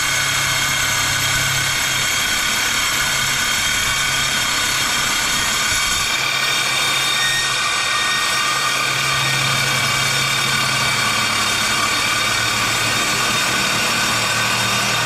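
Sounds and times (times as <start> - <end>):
circular saw cutting steel: 0.0 - 15.0.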